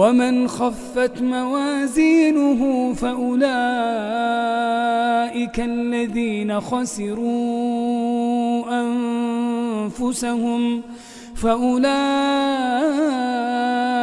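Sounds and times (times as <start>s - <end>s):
solo voice chanting: 0.0s - 14.0s.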